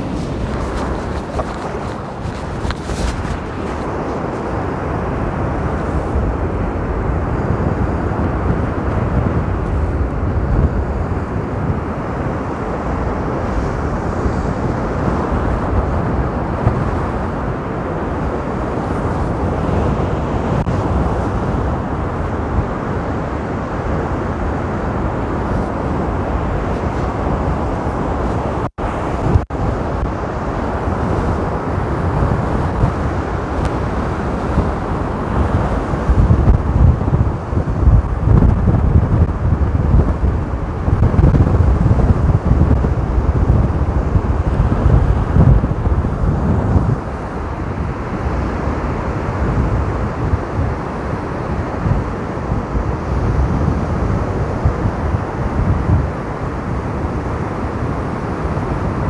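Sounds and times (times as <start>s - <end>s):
surf crashing on beach: 0.0s - 59.0s
wind buffeting microphone: 0.0s - 59.0s.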